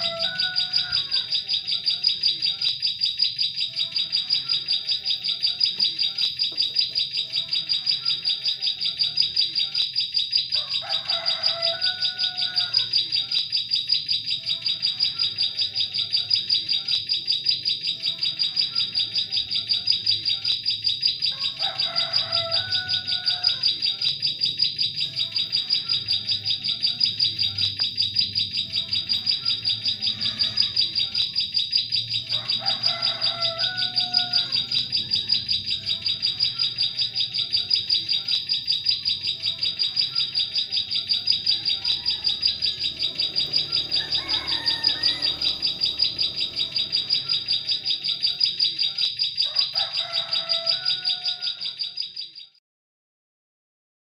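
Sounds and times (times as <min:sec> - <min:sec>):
other birds lower calls: 0:00.0 - 0:52.0
bird rapid high chirps: 0:00.0 - 0:52.5.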